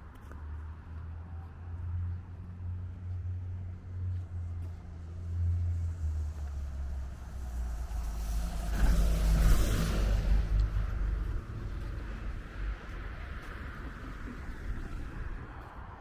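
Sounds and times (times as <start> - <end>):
car passing: 0.4 - 16.0.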